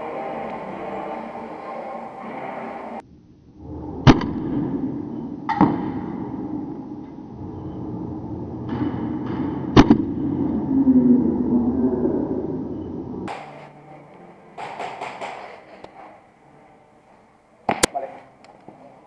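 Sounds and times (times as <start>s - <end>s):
rumble of movement: 0.0s - 17.4s.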